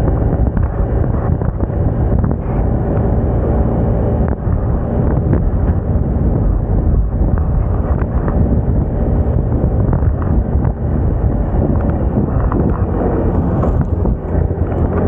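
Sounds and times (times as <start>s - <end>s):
scooter engine running: 0.0s - 15.0s
wind buffeting microphone: 0.0s - 15.0s.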